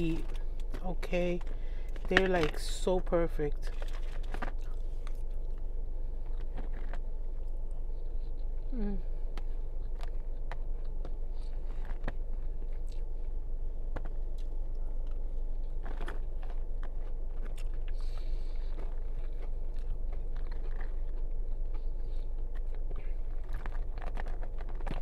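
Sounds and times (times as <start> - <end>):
steady low hum: 0.0 - 25.0
person chewing food: 3.7 - 25.0.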